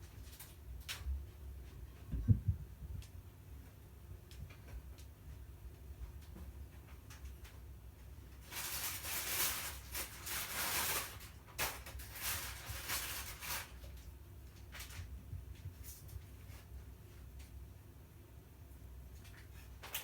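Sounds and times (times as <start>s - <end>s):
cats scuffling: 0.0s - 17.6s.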